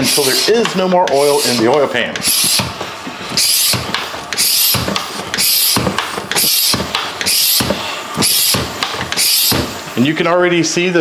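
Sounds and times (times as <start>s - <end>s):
hand pump hissing strokes: 0.0s - 9.8s.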